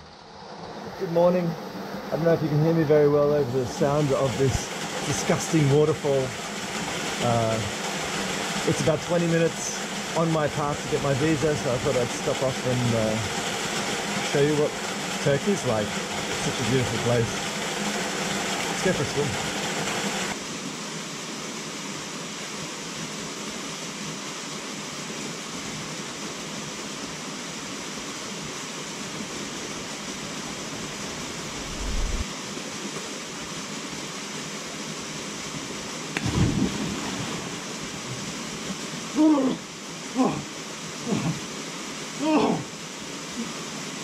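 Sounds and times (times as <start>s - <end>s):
waterfall pouring into pool: 2.1s - 44.0s.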